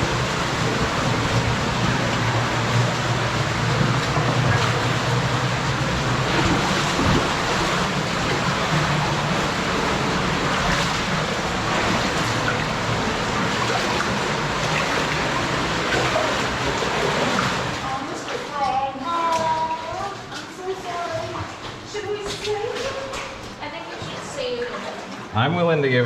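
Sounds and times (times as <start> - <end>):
water rushing in a cave: 0.0 - 26.0.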